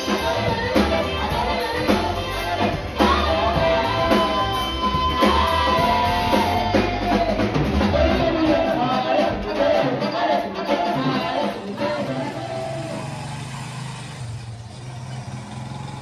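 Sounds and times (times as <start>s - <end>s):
electric guitar: 0.0s - 13.4s
person singing: 0.0s - 13.4s
bass guitar: 0.0s - 16.0s
drum kit: 0.0s - 16.0s.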